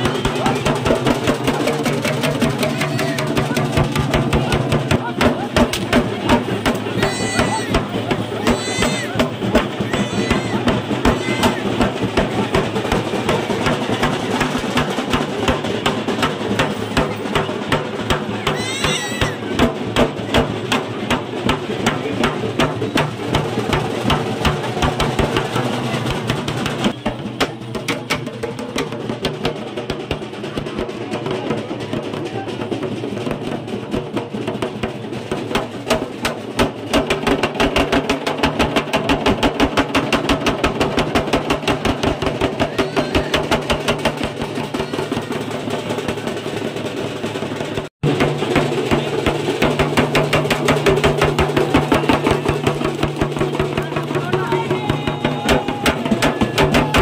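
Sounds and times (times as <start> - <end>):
fast drumming: 0.0 - 57.0.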